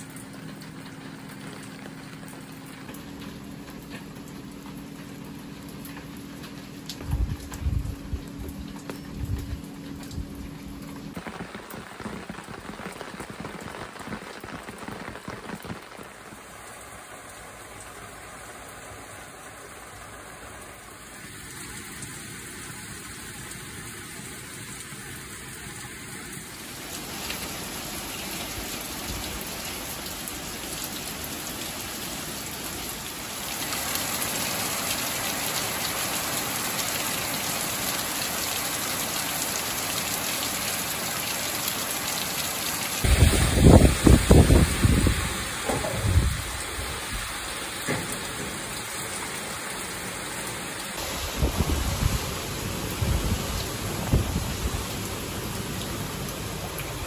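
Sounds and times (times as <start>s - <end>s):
rain on concrete and leaves: 0.0s - 57.0s.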